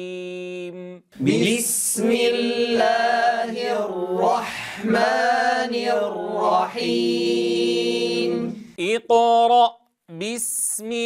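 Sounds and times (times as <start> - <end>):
person chanting recitation: 0.0 - 11.0.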